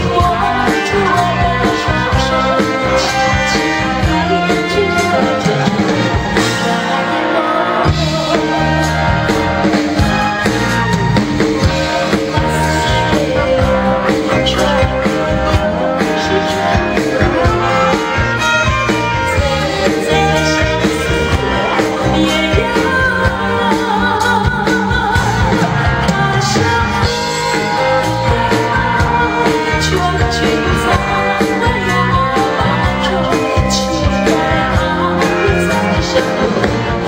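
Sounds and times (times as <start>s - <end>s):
woman singing pop song: 0.0s - 9.7s, 11.6s - 37.0s
live band with drum kit: 0.0s - 37.0s.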